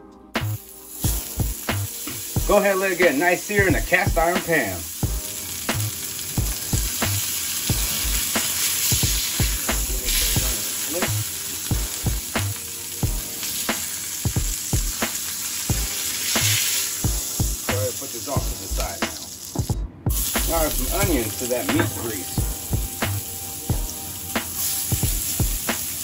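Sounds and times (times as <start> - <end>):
fat sizzling: 0.3 - 26.0.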